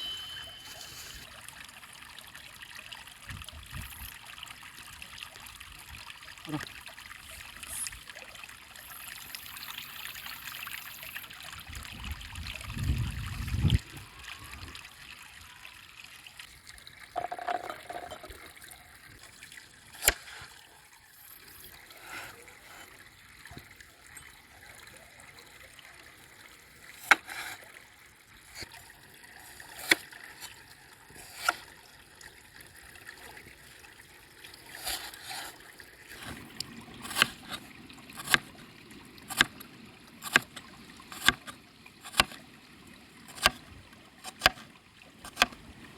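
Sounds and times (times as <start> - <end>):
river water trickling: 0.0 - 45.9.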